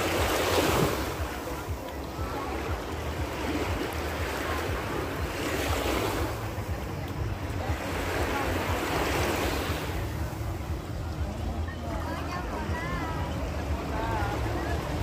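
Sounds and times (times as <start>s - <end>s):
sea waves washing onto shore: 0.0s - 15.0s.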